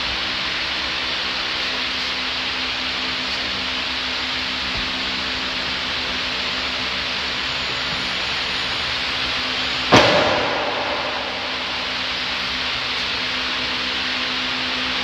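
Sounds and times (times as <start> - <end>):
electric fan rushing: 0.0 - 15.0.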